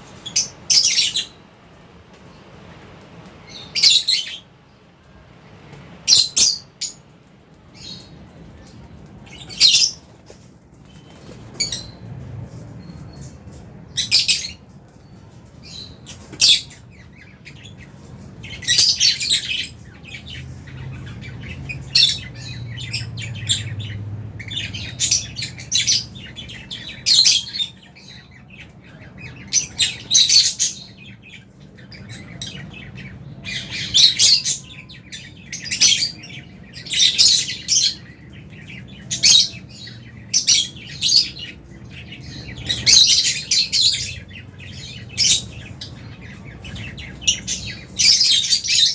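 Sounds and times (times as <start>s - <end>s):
lovebirds chirping and squawking: 0.0s - 4.7s, 5.6s - 48.9s.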